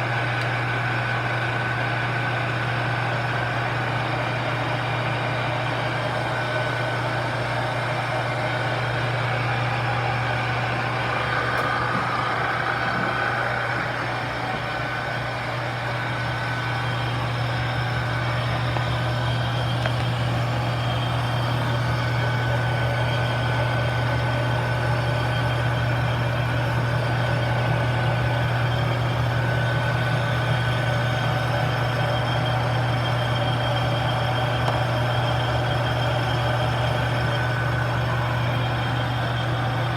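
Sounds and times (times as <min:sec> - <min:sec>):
electric motors humming and whirring: 0:00.0 - 0:39.9.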